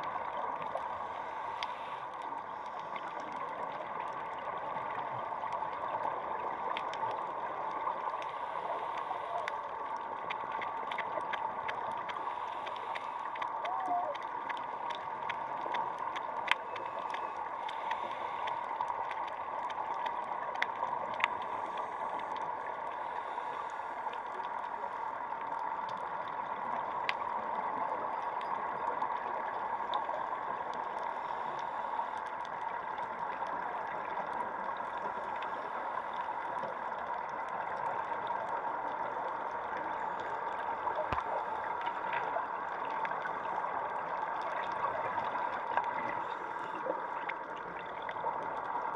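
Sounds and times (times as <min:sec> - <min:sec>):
faint underwater clicks: 0:00.0 - 0:48.9
muffled underwater hiss: 0:00.0 - 0:48.9.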